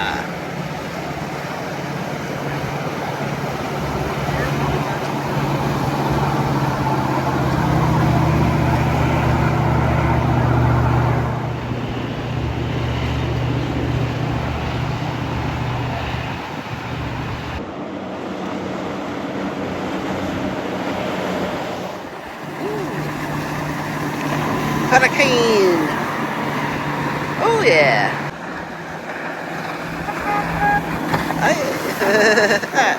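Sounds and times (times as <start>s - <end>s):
boat engine drone: 0.0s - 32.9s.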